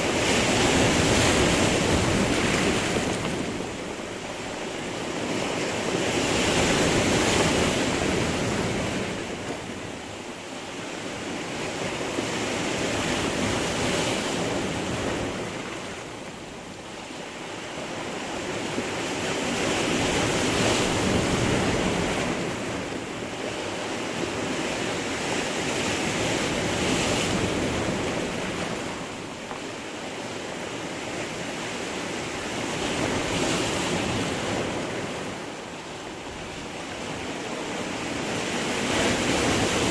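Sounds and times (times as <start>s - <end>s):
sea waves breaking on rocks: 0.0s - 39.9s.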